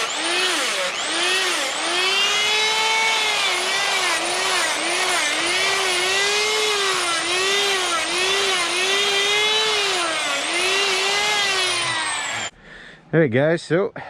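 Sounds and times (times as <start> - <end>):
die grinder whining: 0.0 - 12.5.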